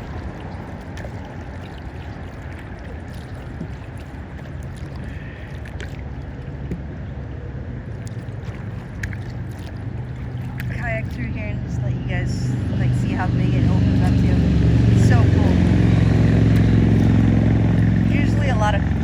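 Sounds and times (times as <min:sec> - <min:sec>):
paddle splashes and drips: 0:00.0 - 0:11.8, 0:12.5 - 0:19.0
low steady hum: 0:00.0 - 0:19.0
steady wash of water: 0:00.0 - 0:19.0.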